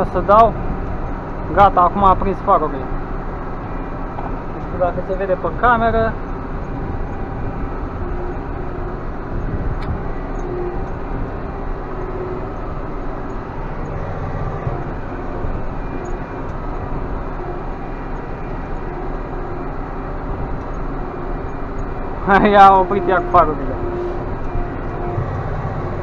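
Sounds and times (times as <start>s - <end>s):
tractor engine under load: 0.0s - 26.0s.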